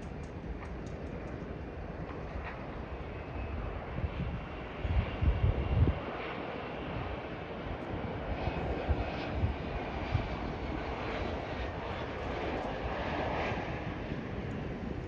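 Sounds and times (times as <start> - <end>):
distant jet engine rush: 0.0 - 15.0.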